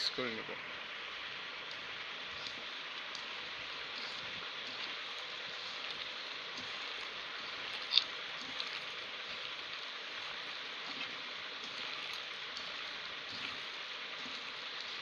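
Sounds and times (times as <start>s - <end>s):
steady hiss: 0.0s - 15.0s
hand kneading wet minced meat: 1.6s - 15.0s.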